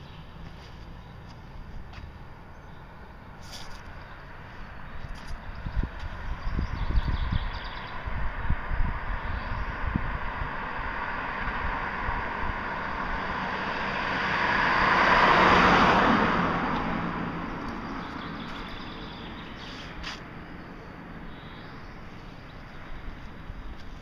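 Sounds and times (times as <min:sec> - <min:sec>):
road vehicle passing by: 0:00.0 - 0:24.0.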